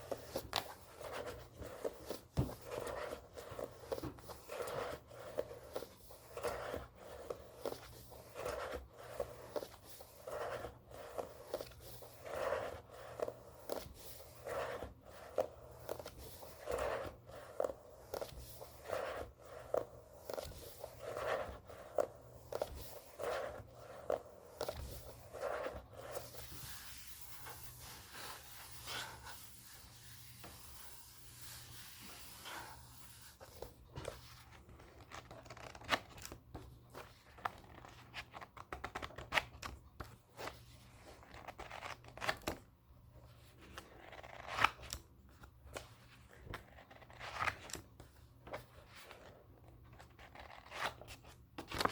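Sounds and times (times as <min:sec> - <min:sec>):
book pages rustling: 0:00.0 - 0:42.6, 0:43.3 - 0:51.9.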